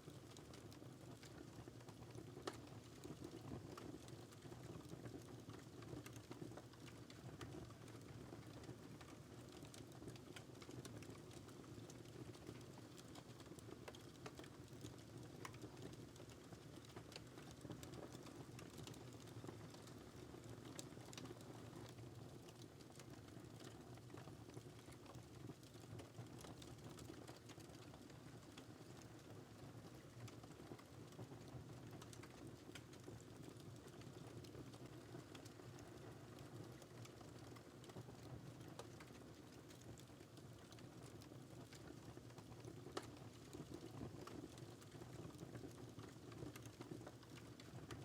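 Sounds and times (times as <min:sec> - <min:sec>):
wood fire crackling: 0:00.1 - 0:48.0.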